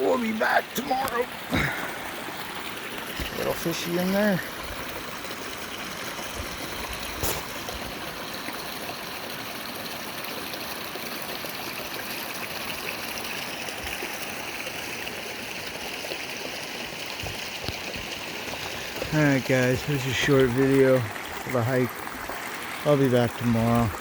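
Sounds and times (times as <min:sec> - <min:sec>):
creek water running: 0:00.0 - 0:24.0.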